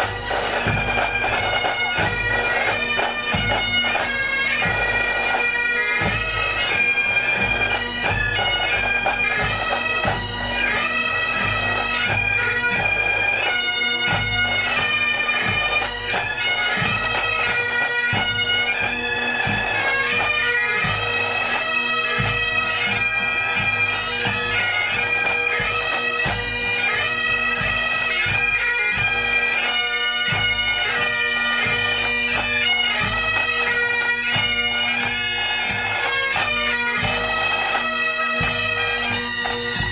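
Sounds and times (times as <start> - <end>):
bagpipes playing melody with drone: 0.0 - 39.9.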